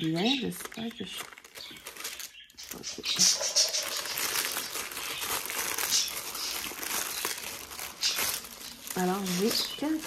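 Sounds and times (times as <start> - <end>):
plastic and foil crinkling: 0.0 - 10.0.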